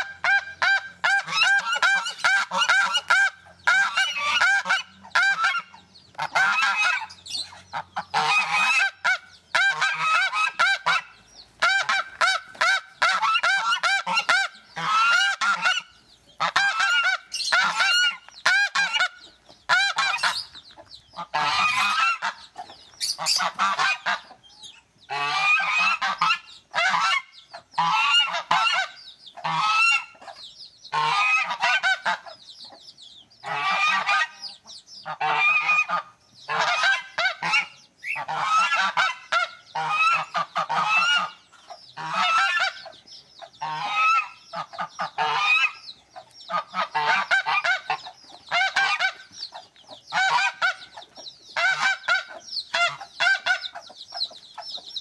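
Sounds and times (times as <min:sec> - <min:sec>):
geese honking: 0:00.0 - 0:24.4, 0:25.1 - 0:30.3, 0:30.9 - 0:32.4, 0:33.4 - 0:54.9.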